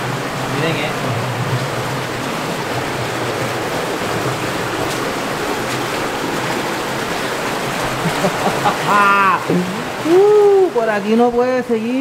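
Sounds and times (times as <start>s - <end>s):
cave stream flowing: 0.0s - 12.0s.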